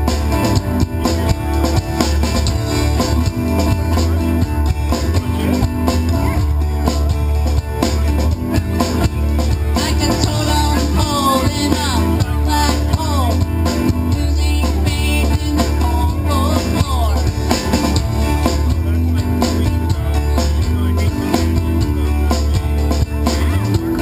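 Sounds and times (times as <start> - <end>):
bending guitar lead line: 0.0 - 24.0
live rock band playing: 0.0 - 24.0.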